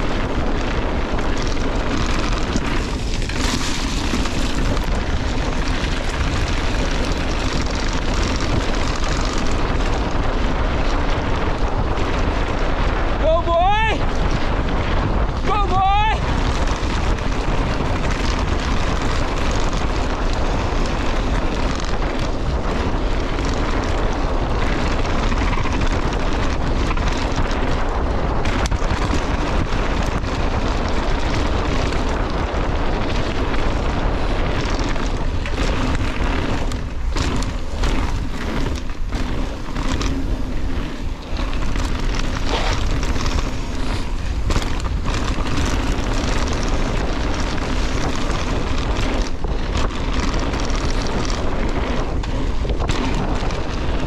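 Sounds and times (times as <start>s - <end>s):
bike rattling over stones: 0.0s - 54.0s
bike tyres rolling on gravel: 0.0s - 54.0s
wind over microphone: 0.0s - 54.0s.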